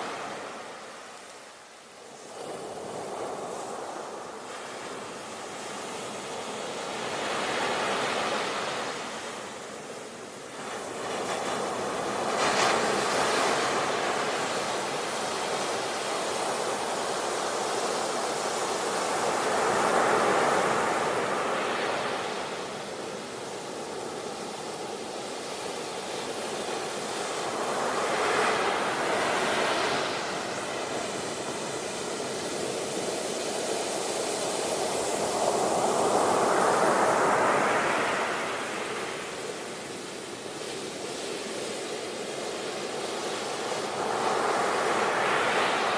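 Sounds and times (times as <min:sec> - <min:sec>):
waves breaking on beach: 0:00.0 - 0:45.9.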